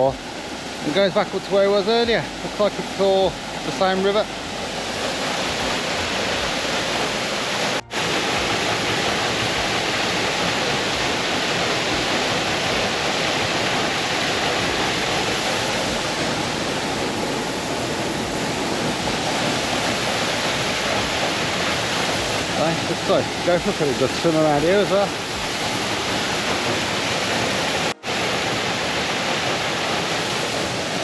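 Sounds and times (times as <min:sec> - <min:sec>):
waterfall roaring: 0:00.0 - 0:31.0.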